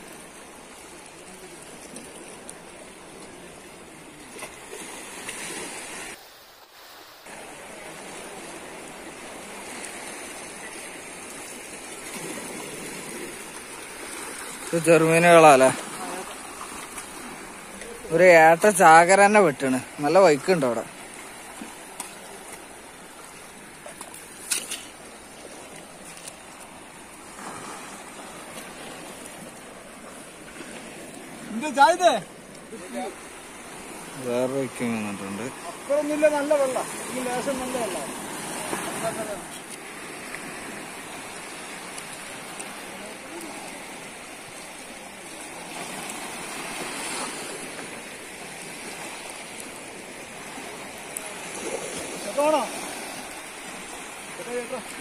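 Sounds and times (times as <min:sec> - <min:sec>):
sea water washing on rocks: 0:00.0 - 0:55.0.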